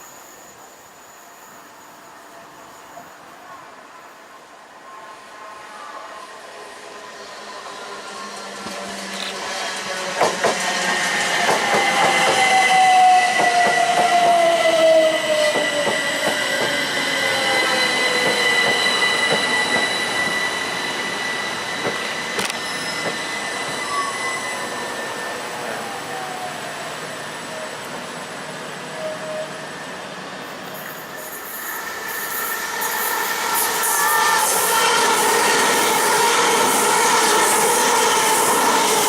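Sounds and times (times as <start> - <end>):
train wheels squealing: 0.0 - 39.0.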